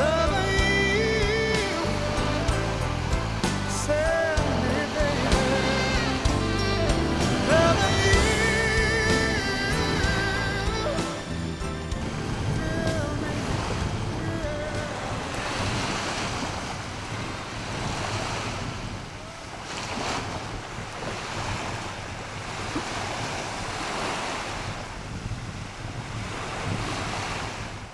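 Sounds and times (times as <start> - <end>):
waves lapping on beach: 0.0 - 27.9
wind buffeting microphone: 0.0 - 27.9.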